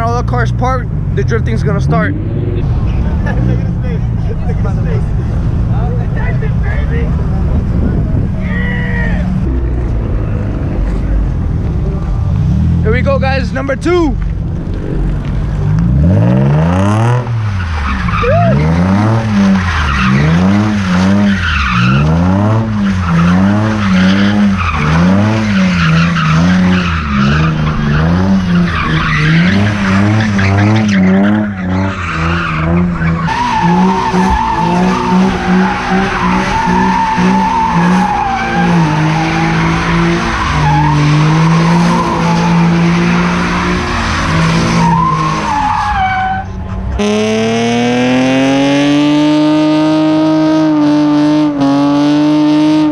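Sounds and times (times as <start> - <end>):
car engine revving: 0.0 - 52.9
tires screeching: 0.0 - 52.9.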